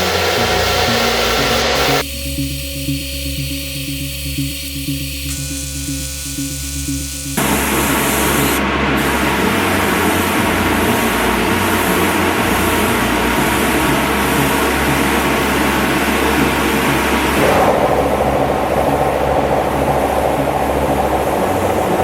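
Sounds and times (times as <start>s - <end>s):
low motor hum: 0.0s - 2.1s, 3.8s - 22.0s
paint spray hiss: 0.0s - 22.0s.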